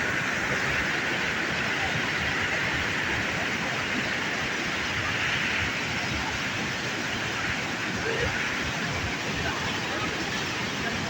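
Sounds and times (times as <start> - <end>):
water rushing over spillway: 0.0 - 11.0.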